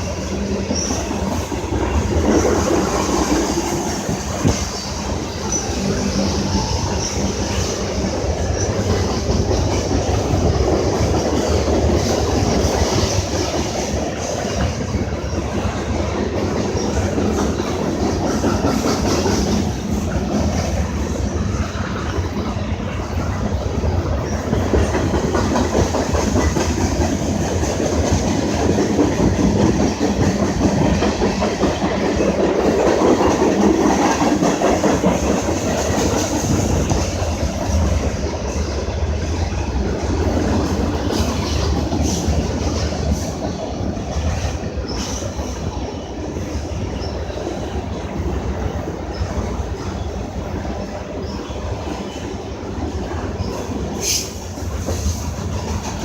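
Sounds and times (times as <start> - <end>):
freight train cars rolling past: 0.0 - 56.0.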